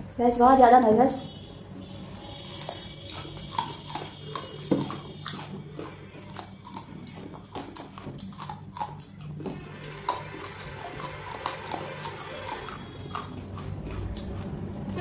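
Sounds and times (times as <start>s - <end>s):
crunching chillies: 1.9s - 15.0s.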